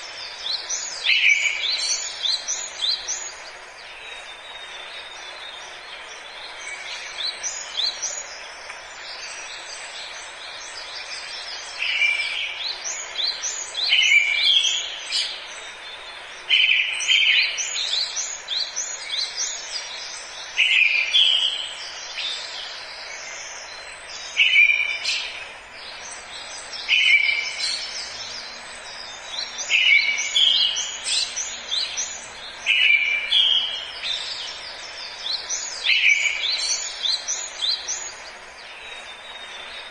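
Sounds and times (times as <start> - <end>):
forest birds singing: 0.0 - 39.9
steady background hiss: 0.0 - 39.9.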